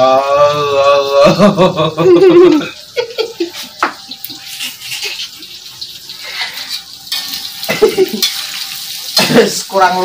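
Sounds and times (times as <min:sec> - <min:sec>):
tofu frying in hot oil: 0:00.0 - 0:10.0.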